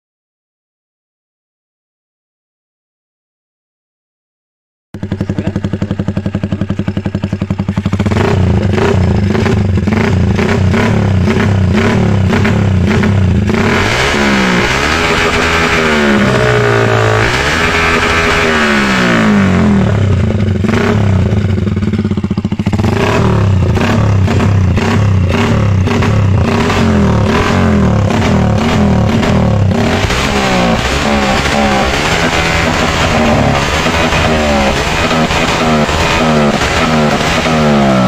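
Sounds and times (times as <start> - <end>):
motorcycle engine idling and revving: 5.0 - 38.0.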